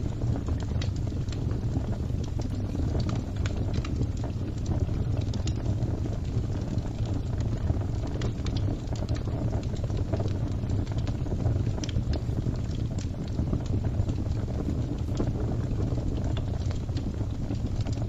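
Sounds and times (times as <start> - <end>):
fire burning roar: 0.0 - 18.0
fire popping and snapping: 0.0 - 18.0.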